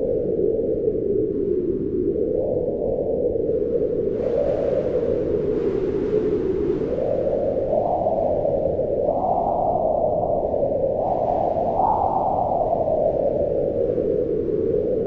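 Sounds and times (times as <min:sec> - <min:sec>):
howling wind: 0:00.0 - 0:15.0.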